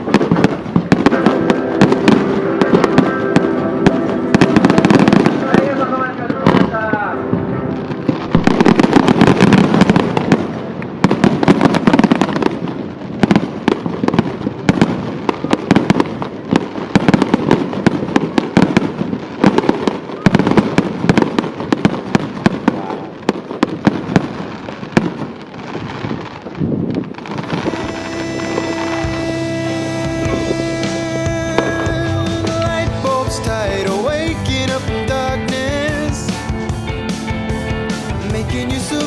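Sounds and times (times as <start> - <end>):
fireworks cracking and popping: 0.0 - 39.0
fireworks rumbling: 0.0 - 39.0.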